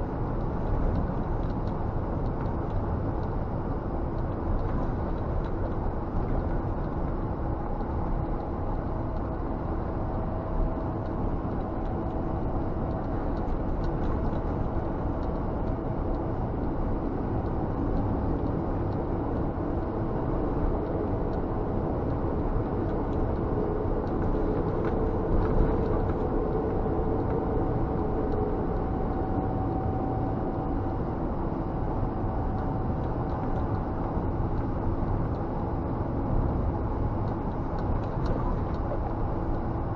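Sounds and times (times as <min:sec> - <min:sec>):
road noise inside cab: 0:00.0 - 0:39.9
truck diesel engine drone: 0:00.0 - 0:39.9.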